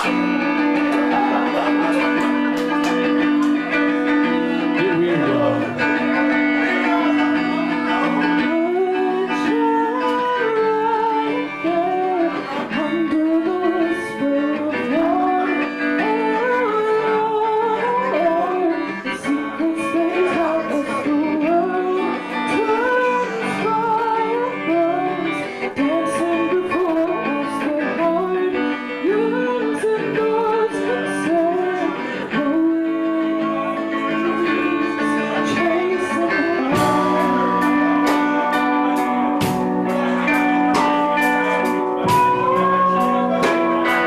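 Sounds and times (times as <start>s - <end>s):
melodic guitar line: 0.0s - 44.0s
rock band playing: 0.0s - 44.0s.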